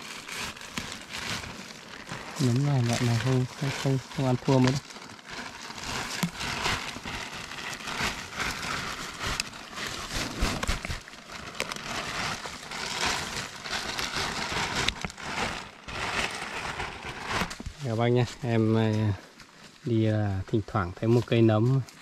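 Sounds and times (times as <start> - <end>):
rustling and crackling: 0.0 - 22.0.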